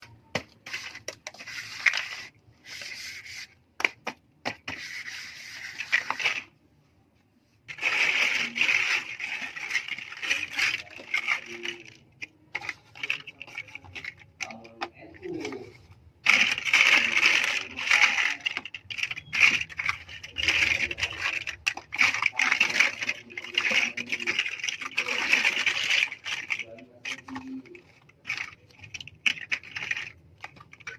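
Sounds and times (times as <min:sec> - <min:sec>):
plastic pieces clattering: 0:00.0 - 0:06.6, 0:07.7 - 0:30.9.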